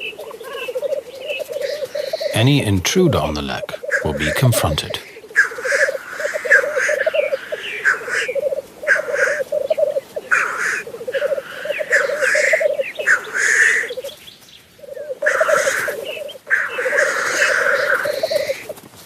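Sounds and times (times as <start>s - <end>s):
grouse bubbling coo: 0.0s - 14.2s, 14.8s - 18.8s.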